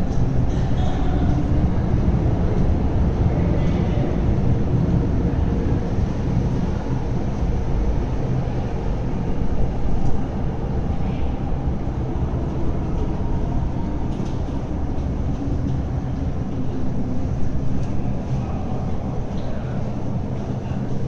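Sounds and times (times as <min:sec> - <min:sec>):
train rumbling through station: 0:00.0 - 0:21.0.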